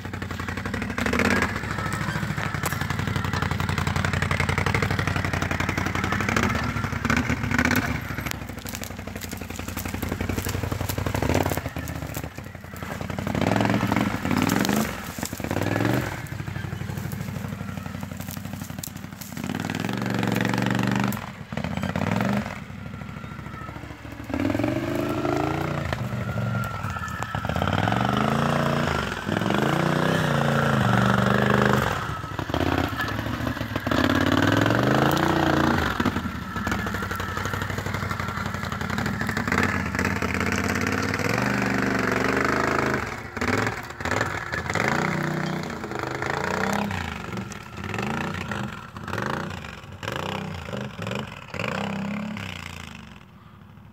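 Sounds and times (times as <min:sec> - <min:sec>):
quad engine revving: 0:00.0 - 0:53.6.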